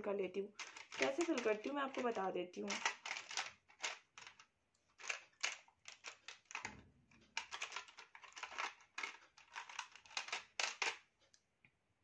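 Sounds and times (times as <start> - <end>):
makeup items clicking and rattling: 0.4 - 11.1.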